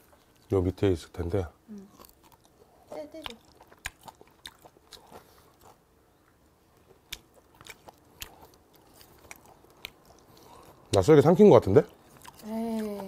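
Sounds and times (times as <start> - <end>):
faint close chewing: 0.0 - 0.6, 1.7 - 13.0.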